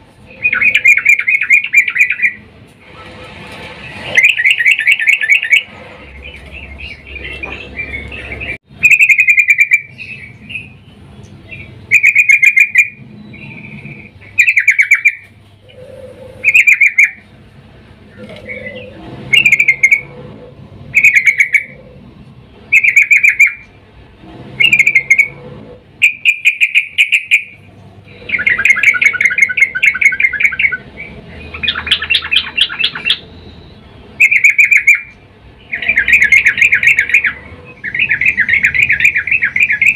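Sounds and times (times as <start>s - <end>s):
bird chattering calls: 0.3s - 2.4s, 3.9s - 10.8s, 11.5s - 17.3s, 18.1s - 20.2s, 20.9s - 22.0s, 22.7s - 23.8s, 24.6s - 25.4s, 26.0s - 39.9s.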